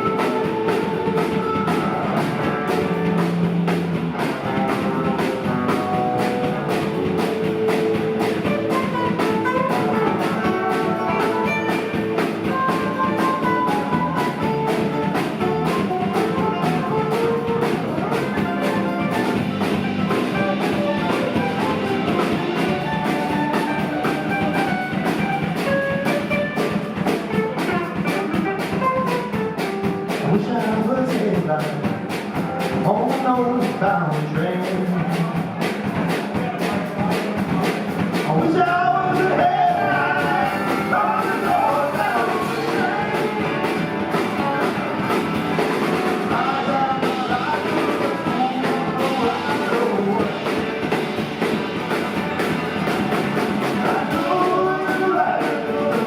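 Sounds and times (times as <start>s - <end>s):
lead guitar melody: 0.0s - 30.2s, 38.9s - 55.4s
bass guitar: 0.0s - 56.0s
drum kit beat: 0.0s - 56.0s.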